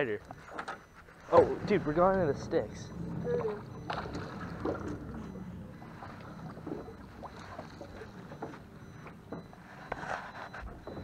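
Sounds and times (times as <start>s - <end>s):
wind and water rumble: 0.0s - 11.0s.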